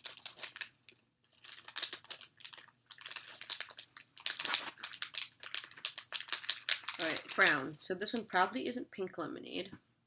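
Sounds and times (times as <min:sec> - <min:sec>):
plastic wrappers crinkling: 0:00.0 - 0:08.6.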